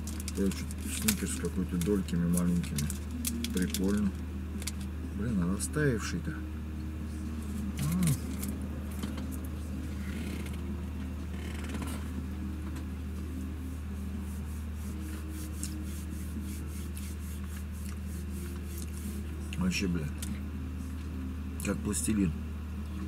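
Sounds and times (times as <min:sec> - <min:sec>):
diesel engine drone: 0:00.0 - 0:23.0
road noise: 0:00.0 - 0:23.0.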